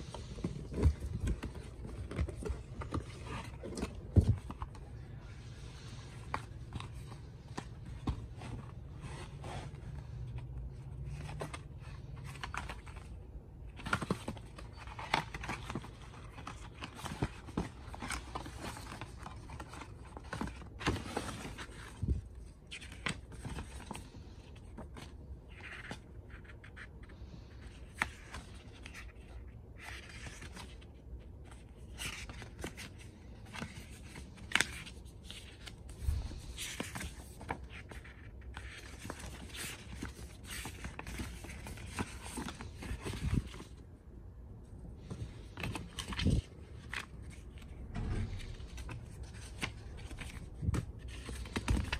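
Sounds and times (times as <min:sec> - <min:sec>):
paper and card rustling: 0:00.0 - 0:43.9, 0:45.0 - 0:51.9.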